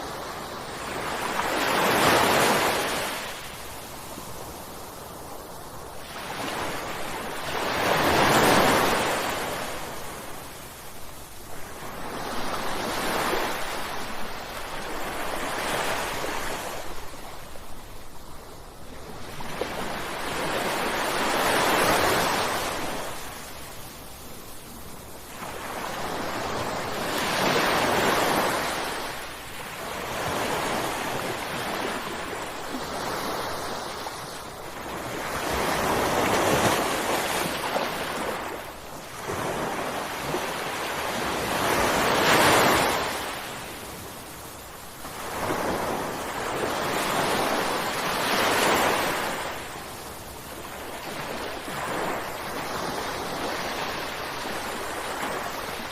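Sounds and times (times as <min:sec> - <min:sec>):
ocean waves crashing on shore: 0:00.0 - 0:55.9.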